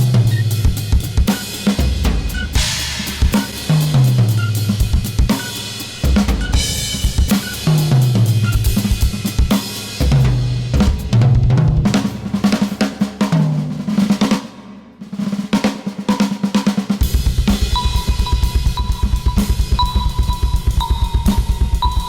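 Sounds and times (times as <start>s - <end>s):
toms and bass drum strokes: 0.0s - 15.9s, 17.0s - 22.0s
snare drum rolls: 0.0s - 22.0s.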